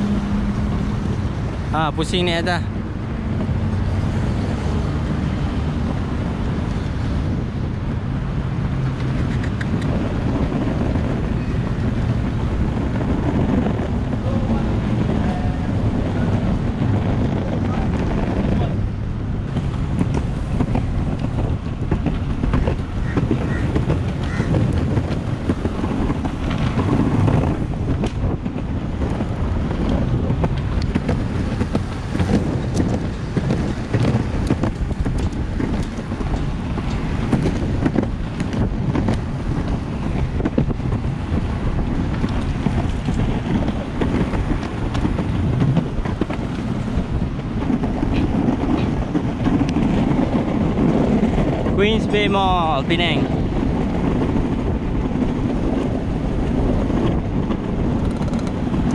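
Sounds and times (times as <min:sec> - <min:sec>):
skateboard wheels rumbling on concrete: 0:00.0 - 0:58.9
wind buffeting microphone: 0:00.0 - 0:58.9.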